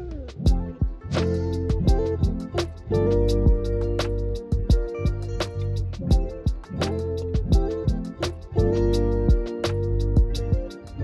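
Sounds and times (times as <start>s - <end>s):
drum beat: 0.0s - 11.0s.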